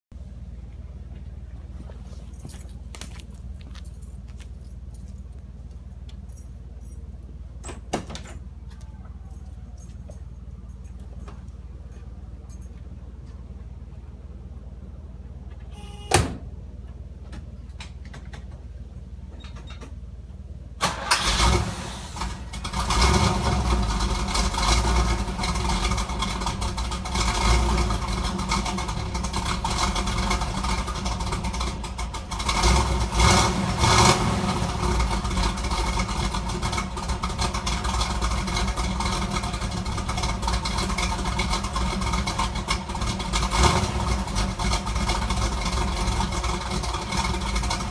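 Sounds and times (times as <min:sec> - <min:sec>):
car engine starting and idling: 0:00.1 - 0:47.9.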